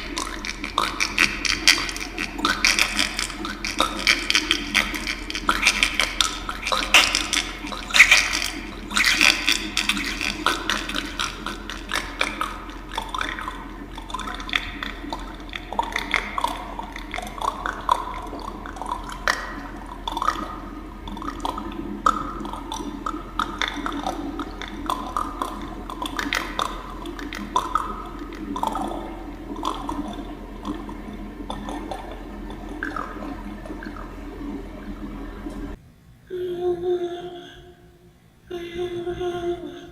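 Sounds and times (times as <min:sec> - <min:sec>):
water drops plopping: 0:00.0 - 0:35.8
steady low hum: 0:00.0 - 0:39.9.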